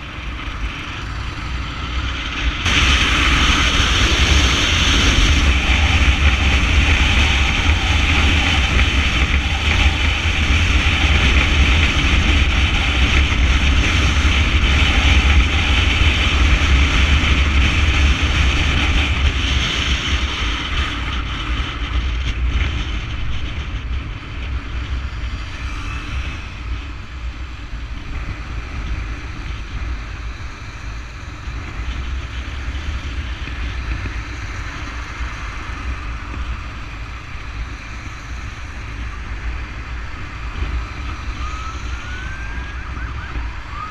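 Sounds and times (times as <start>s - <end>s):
motorcycles riding road noise: 0.0s - 43.9s
wind buffeting microphone: 0.0s - 43.9s.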